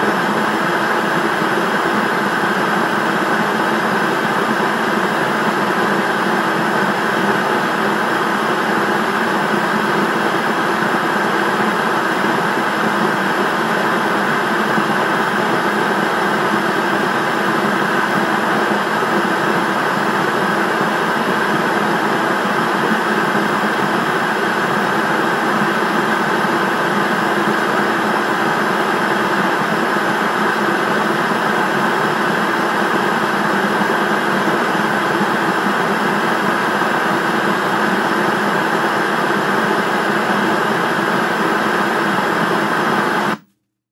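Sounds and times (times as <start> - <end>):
television static hiss: 0.0 - 43.5.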